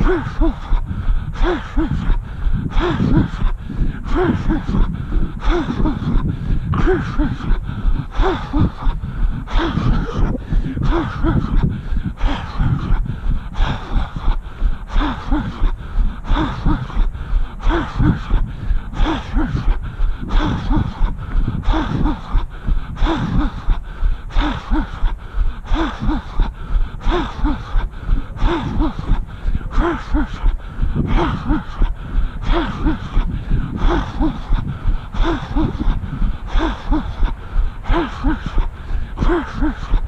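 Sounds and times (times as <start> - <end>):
runner breathing hard: 0.0 - 40.0.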